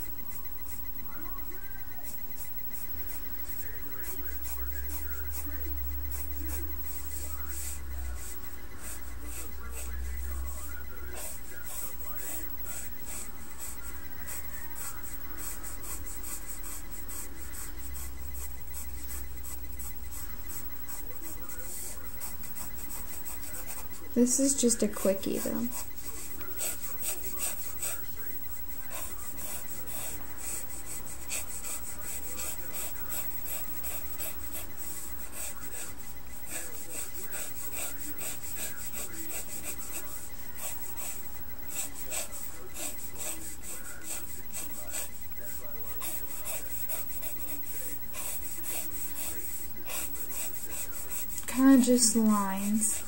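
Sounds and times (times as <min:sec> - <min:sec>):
pencil scratching on paper: 0:00.0 - 0:53.0.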